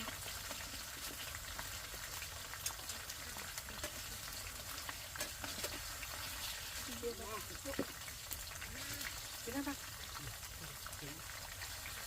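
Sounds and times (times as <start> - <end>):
chips frying in hot oil: 0.0 - 12.0.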